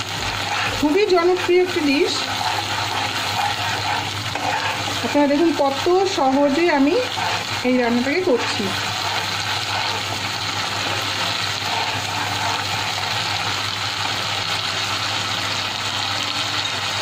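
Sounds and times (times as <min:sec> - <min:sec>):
spice paste sizzling in oil: 0:00.0 - 0:17.0.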